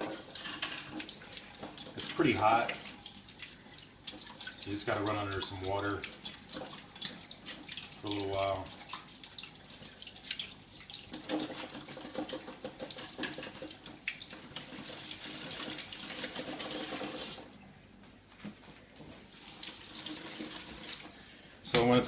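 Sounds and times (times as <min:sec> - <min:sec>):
kitchen tap running: 0:00.0 - 0:17.5, 0:19.3 - 0:22.0.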